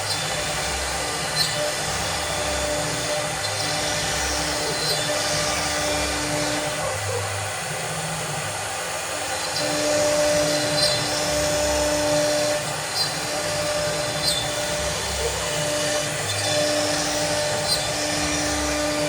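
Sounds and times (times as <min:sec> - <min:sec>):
cutting machine whine: 0:00.0 - 0:19.0
motor tones: 0:00.0 - 0:19.0.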